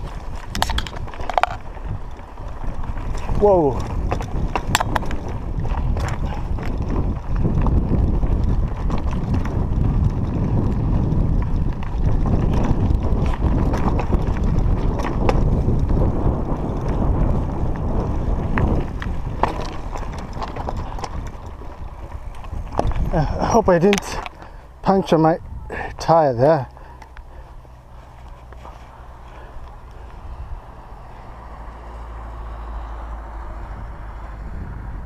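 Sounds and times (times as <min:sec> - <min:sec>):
wind on microphone: 0:00.0 - 0:26.1, 0:26.7 - 0:35.0
bike tyres rumbling on stony track: 0:00.0 - 0:35.0.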